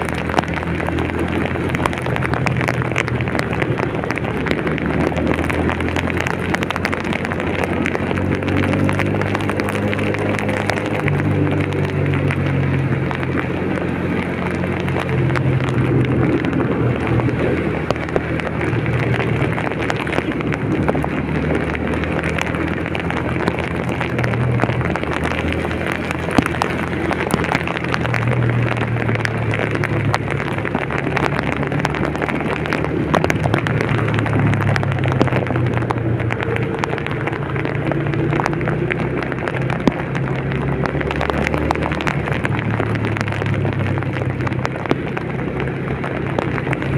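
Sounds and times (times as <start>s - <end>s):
heavy rain pattering: 0.0s - 46.9s
vehicle engine hum: 0.0s - 46.9s.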